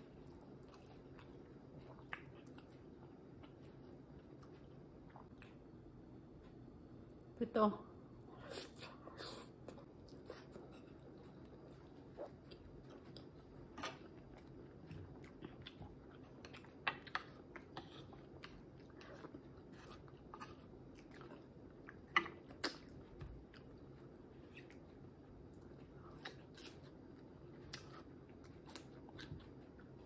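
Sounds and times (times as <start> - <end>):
person chewing with wet smacks: 0.0 - 5.7, 9.6 - 30.0.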